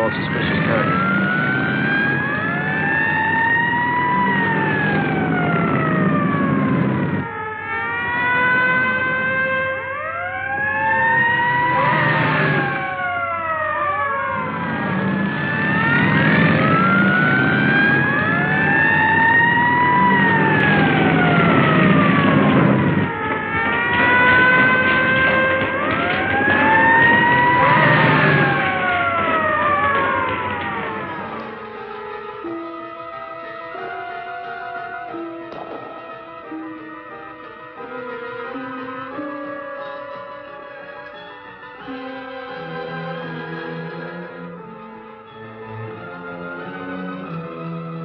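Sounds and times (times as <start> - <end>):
car engines rumbling: 0.0 - 48.0
police sirens wailing: 0.0 - 48.0.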